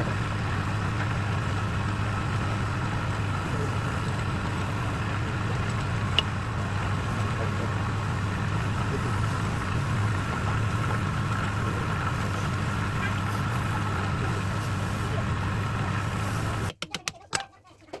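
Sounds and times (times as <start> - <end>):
engine humming: 0.0 - 16.7.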